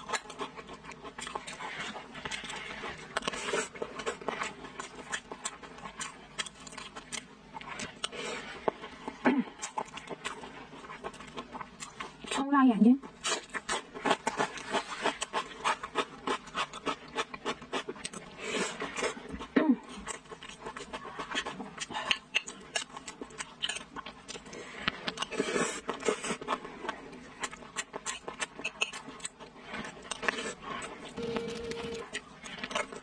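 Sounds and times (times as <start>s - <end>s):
chewing with wet mouth clicks: 0.0s - 12.4s, 13.0s - 31.0s.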